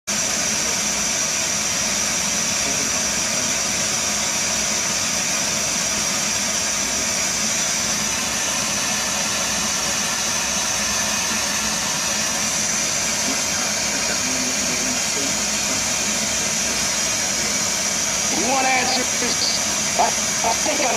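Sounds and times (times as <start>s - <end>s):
high-pitched whine: 0.1s - 20.9s
steady loud hiss: 0.1s - 20.9s.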